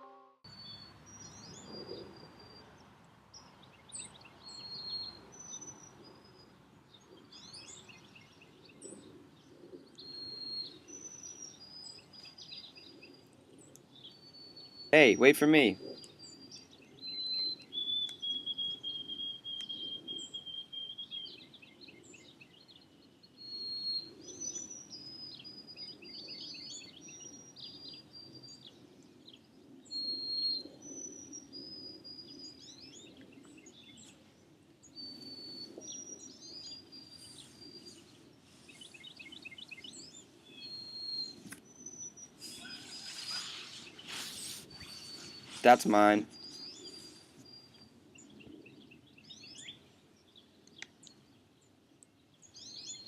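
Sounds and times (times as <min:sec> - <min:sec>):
songbirds singing: 0:00.5 - 0:53.0.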